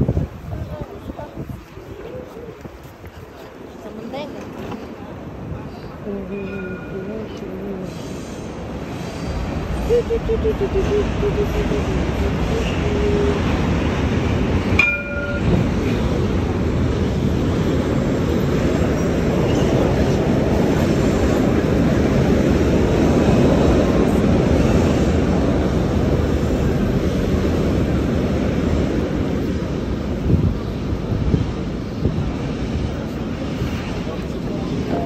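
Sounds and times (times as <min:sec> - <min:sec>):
electric tram rumbling: 0:00.0 - 0:35.0.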